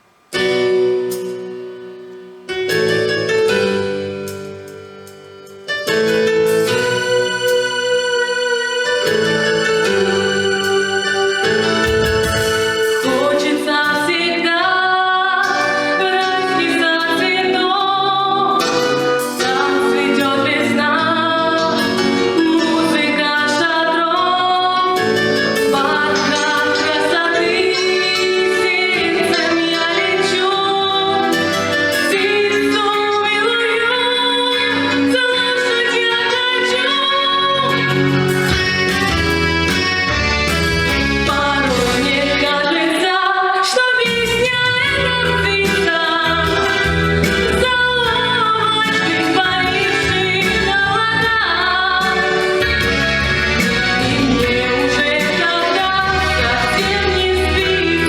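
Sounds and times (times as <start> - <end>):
pop backing track with bass and beat: 0.4 - 58.0
woman singing: 6.7 - 38.8, 41.2 - 58.0.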